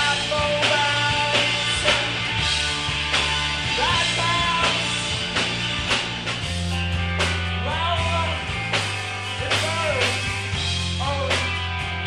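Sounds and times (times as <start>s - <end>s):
sliding guitar or vocal notes: 0.0s - 5.9s, 7.6s - 12.0s
bass line: 0.0s - 12.0s
drums beating: 0.0s - 12.0s.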